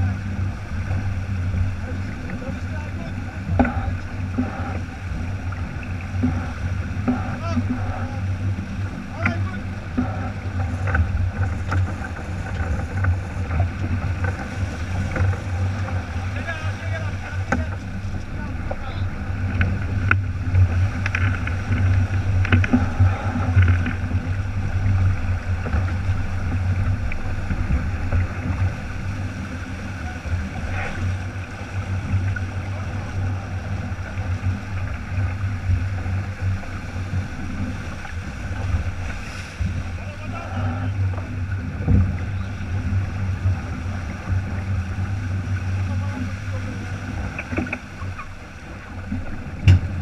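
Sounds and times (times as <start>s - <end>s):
water rushing along hull: 0.0s - 50.0s
wind buffeting microphone: 0.0s - 50.0s.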